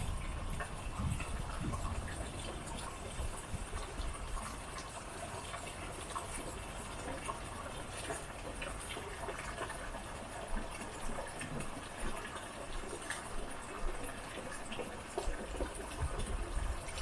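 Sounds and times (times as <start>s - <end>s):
rain falling on porch: 0.0s - 17.0s.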